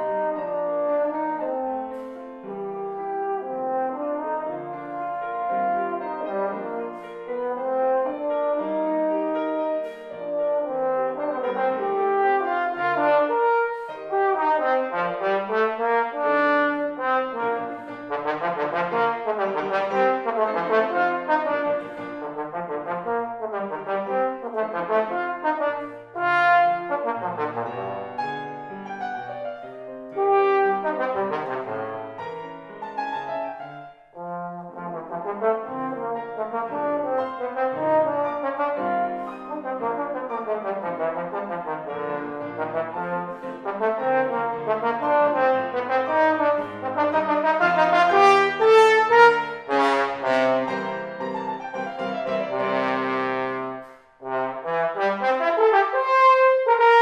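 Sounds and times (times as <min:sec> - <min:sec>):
piano accompaniment: 0:00.0 - 0:57.0
trombone melody: 0:00.0 - 0:57.0.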